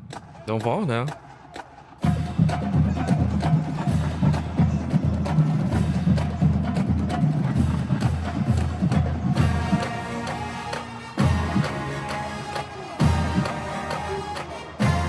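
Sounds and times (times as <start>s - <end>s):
snare drum: 0.0s - 15.0s.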